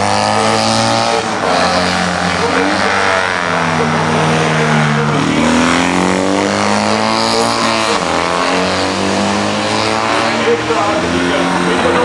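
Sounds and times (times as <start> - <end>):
sidecar motorcycle engine passing: 0.0 - 12.0.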